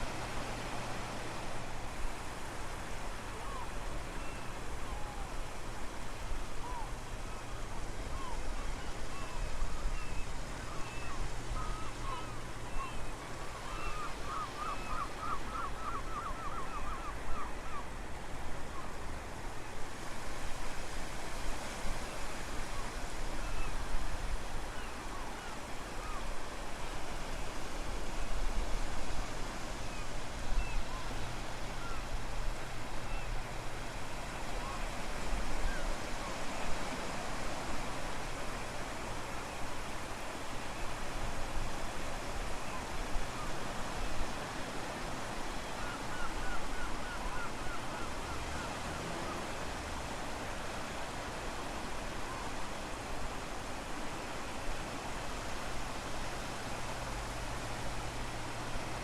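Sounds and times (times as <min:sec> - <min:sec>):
ocean waves: 0:00.0 - 0:59.0.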